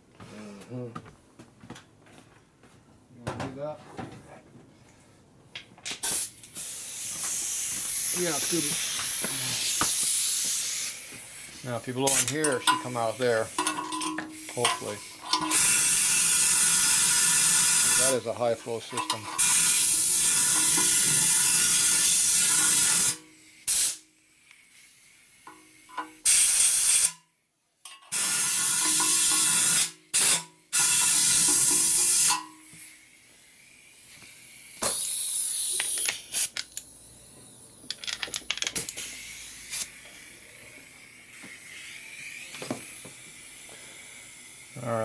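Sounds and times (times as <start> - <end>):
compressed air hissing blasts: 6.0 - 27.2, 28.1 - 37.9, 38.8 - 45.0.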